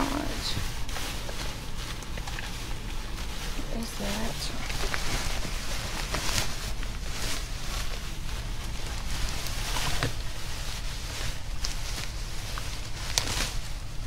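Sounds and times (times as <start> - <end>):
plastic bags rustling: 0.0 - 14.0
steady low hum: 0.0 - 14.0.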